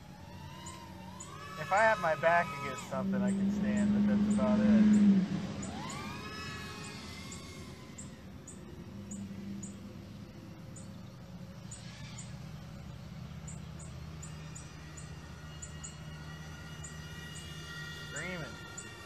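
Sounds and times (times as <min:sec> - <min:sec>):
drone motors whining: 0:00.0 - 0:19.0
steady low hum: 0:00.0 - 0:19.0.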